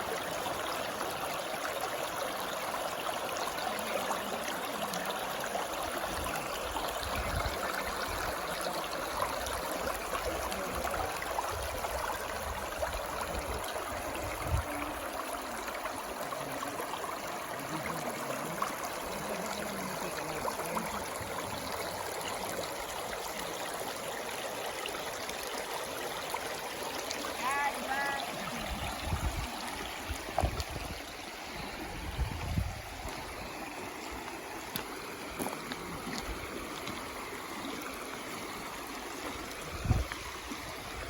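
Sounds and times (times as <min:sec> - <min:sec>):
stream water flowing: 0:00.0 - 0:41.0.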